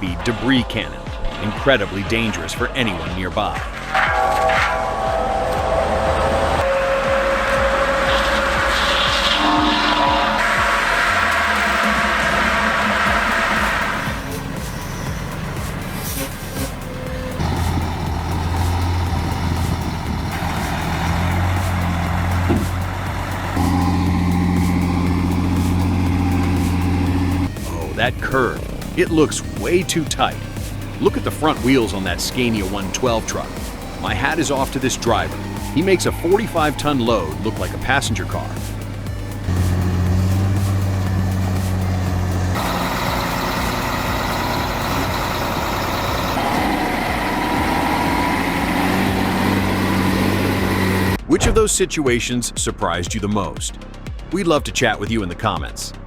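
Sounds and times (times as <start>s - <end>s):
heavy truck engine droning: 0.0s - 51.4s
road noise: 0.0s - 51.6s.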